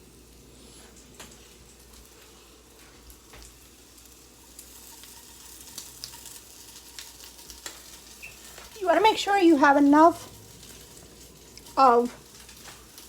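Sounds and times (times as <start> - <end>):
food sizzling in frying pan: 0.0 - 13.0
small crackles: 0.6 - 13.0.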